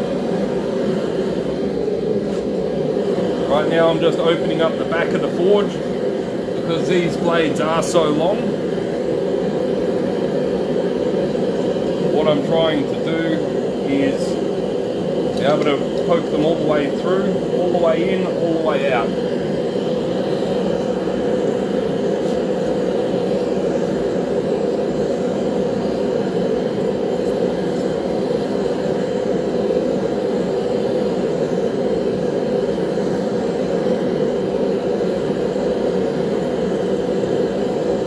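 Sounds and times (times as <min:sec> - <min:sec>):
gas forge burner roaring: 0:00.0 - 0:38.0.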